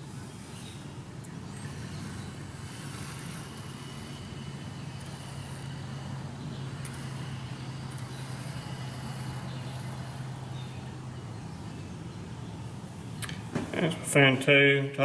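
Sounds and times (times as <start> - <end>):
low motor hum: 1.2 - 13.8.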